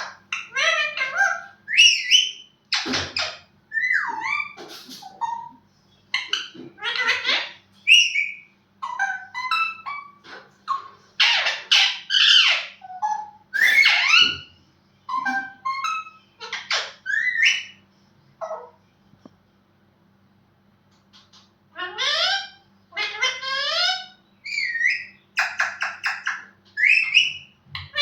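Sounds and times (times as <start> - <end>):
parrot squawks: 0.0 - 5.6, 6.2 - 14.5, 15.1 - 17.8, 18.4 - 18.8, 21.7 - 28.0.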